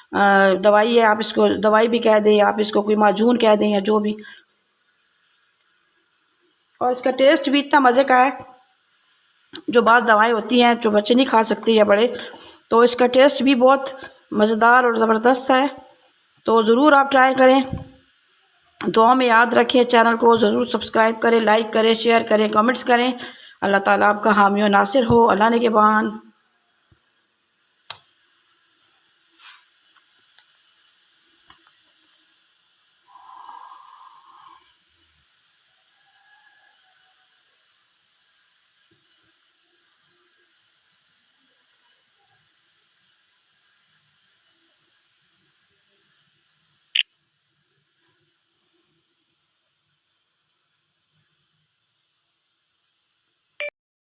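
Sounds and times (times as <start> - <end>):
room noise hiss: 0.0 - 53.8.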